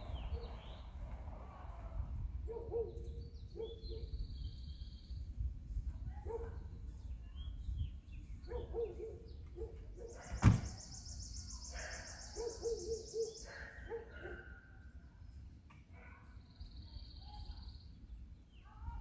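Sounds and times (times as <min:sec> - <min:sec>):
birds singing and calling: 0:00.0 - 0:01.0, 0:02.5 - 0:05.4, 0:06.0 - 0:19.0.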